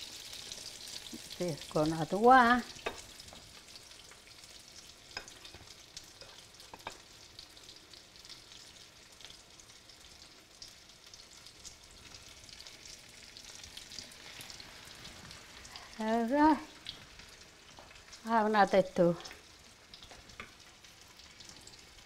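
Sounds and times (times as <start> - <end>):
chicken frying in oil: 0.0 - 22.0.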